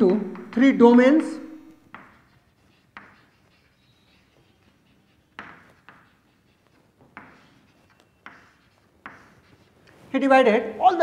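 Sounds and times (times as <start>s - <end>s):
chalk scraping on chalkboard: 0.0s - 10.4s.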